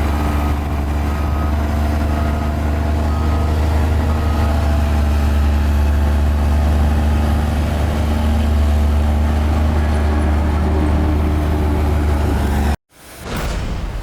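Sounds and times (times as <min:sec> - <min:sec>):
bulldozer diesel engine droning: 0:00.0 - 0:12.8.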